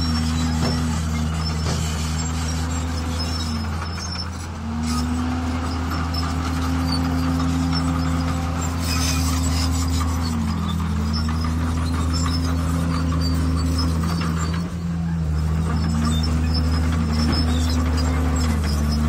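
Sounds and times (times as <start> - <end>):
heavy diesel machinery running: 0.0 - 19.0
scraping squeaky rasp: 0.0 - 19.0.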